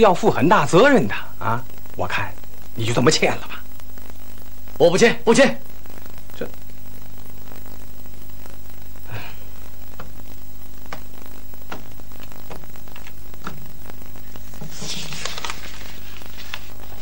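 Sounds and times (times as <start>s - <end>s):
burst of noise: 0.0s - 17.0s
mains hum and hiss: 0.0s - 17.0s.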